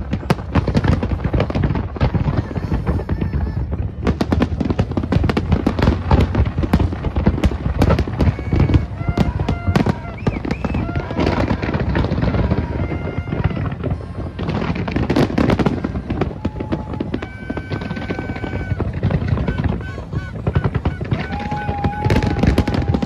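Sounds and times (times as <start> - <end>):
fireworks bangs: 0.0 - 23.0
fireworks crackling and popping: 0.0 - 23.0.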